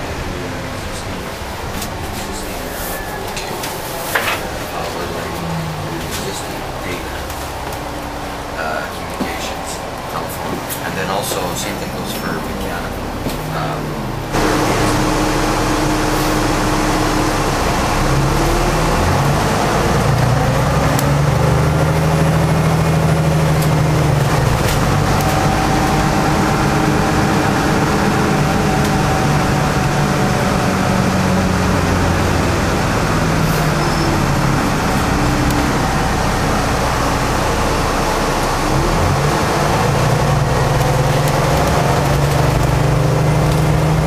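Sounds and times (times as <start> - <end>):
bus engine drone: 0.0 - 44.0
drivetrain whining: 0.0 - 44.0
road noise: 0.0 - 44.0.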